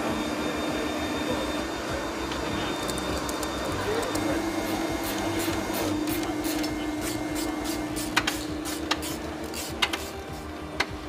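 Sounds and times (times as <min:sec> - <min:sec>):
machinery whine and hum: 0:00.0 - 0:11.0.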